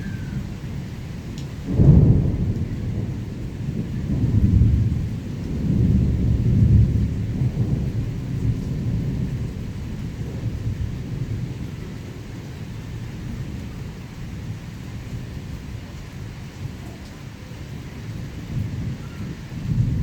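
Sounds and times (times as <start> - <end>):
steady rain: 0.0 - 20.0
thunder crack and rumble: 0.0 - 20.0.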